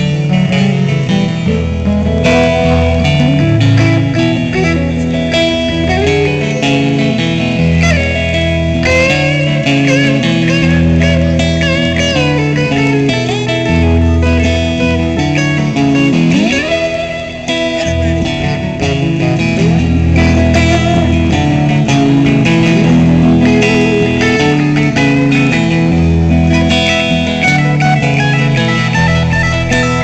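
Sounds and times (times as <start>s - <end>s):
electric guitars playing: 0.0s - 30.0s.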